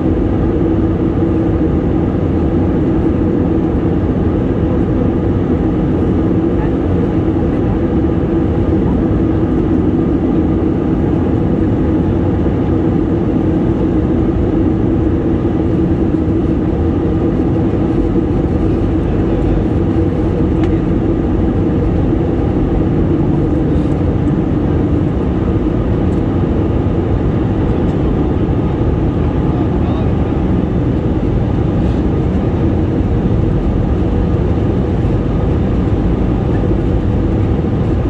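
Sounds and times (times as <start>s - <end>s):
airplane rumble: 0.0s - 38.0s
constant low hum: 0.0s - 38.0s.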